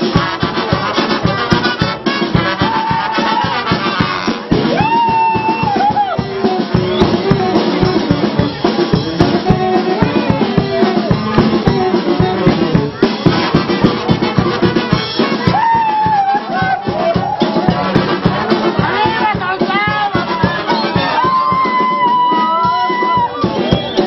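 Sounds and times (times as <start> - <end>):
brass band playing dance tune: 0.0 - 24.0
fast drum beat: 0.0 - 24.0.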